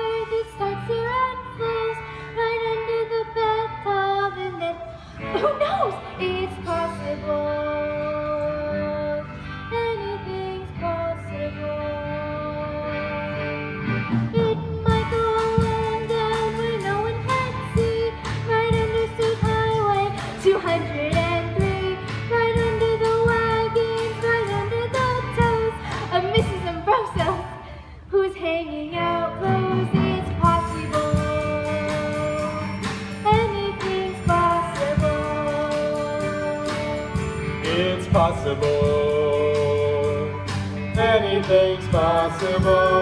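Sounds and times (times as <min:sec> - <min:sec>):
stage musical instrumental music: 0:00.0 - 0:28.1, 0:28.8 - 0:43.0.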